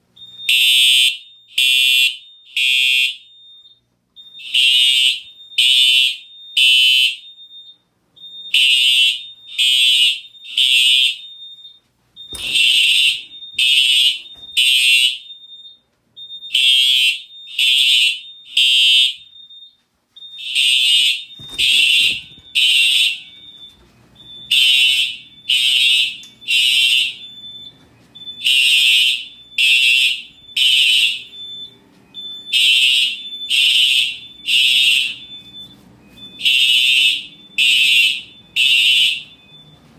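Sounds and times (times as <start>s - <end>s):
fire alarm horn blasts: 0.2s - 39.9s.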